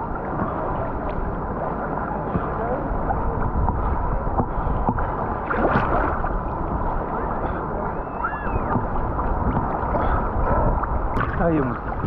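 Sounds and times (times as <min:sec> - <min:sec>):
seawater sloshing and lapping: 0:00.0 - 0:12.0
wind on microphone: 0:00.0 - 0:12.0.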